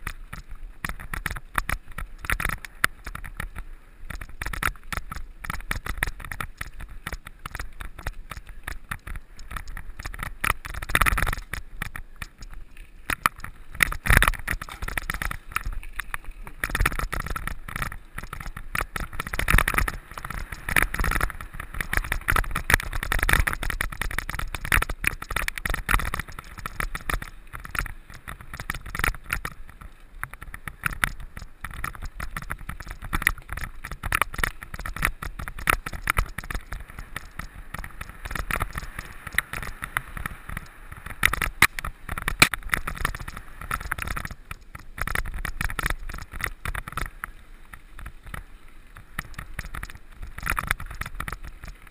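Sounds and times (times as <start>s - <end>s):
mountain bike clattering: 0.0s - 48.5s, 49.2s - 51.9s.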